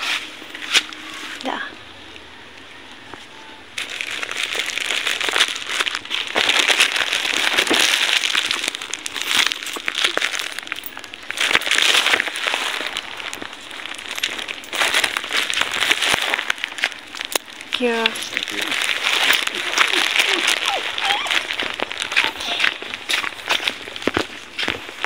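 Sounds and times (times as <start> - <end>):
plastic pouch crinkling: 3.8 - 25.0.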